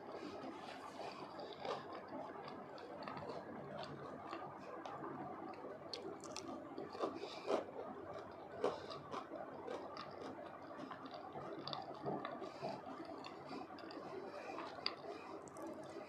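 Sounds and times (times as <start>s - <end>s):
person chewing crispy food: 0.0s - 16.0s.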